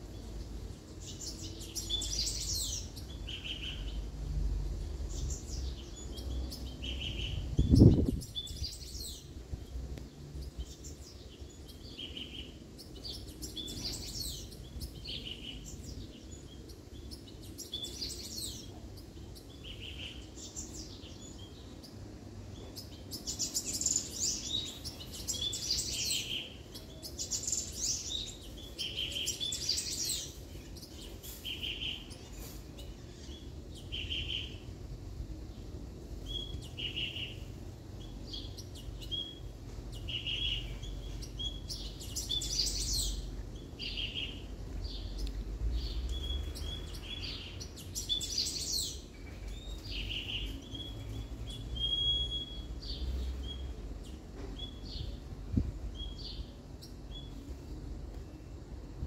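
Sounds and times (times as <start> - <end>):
songbird twittering song: 0.0 - 59.0.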